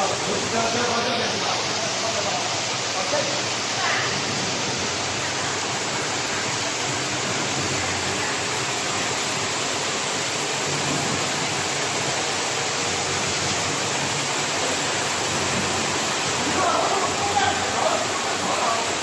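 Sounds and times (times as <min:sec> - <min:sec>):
churning water rushing: 0:00.0 - 0:19.0.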